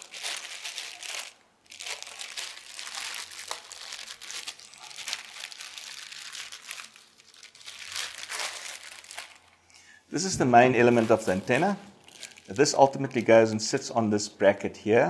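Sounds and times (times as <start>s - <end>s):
plastic wrapping crinkling: 0.0s - 9.7s, 10.3s - 13.9s.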